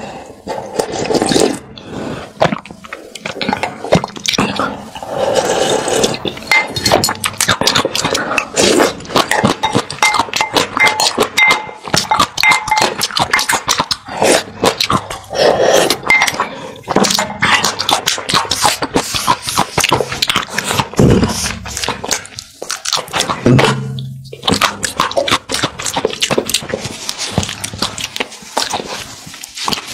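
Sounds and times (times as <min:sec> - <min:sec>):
slurping from bowl: 0:00.0 - 0:29.9
wet chewing and mouth clicks: 0:00.0 - 0:29.9.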